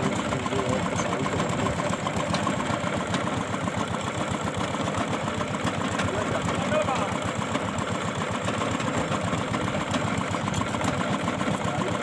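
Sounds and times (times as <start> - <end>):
drilling rig engine pulsing: 0.0 - 12.0.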